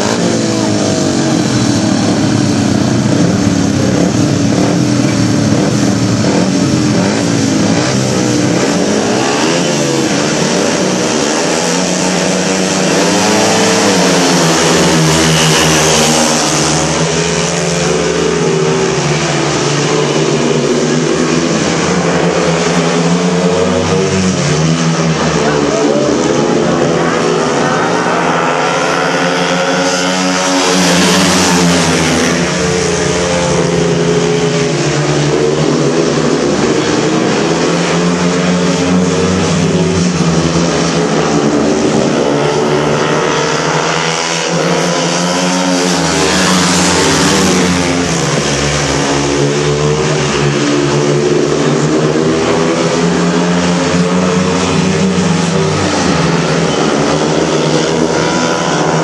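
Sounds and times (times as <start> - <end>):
motorcycles racing: 0.0 - 59.0.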